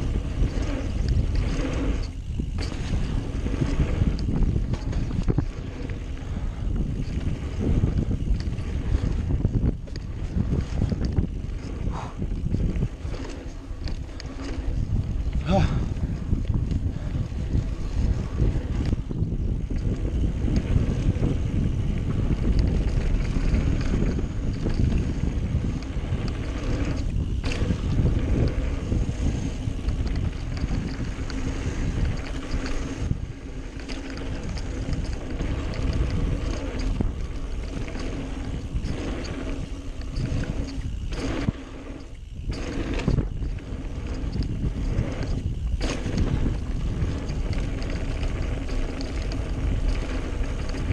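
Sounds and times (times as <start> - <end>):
bike tyre rumble on dirt: 0.0 - 50.9
wind buffeting microphone: 0.0 - 50.9.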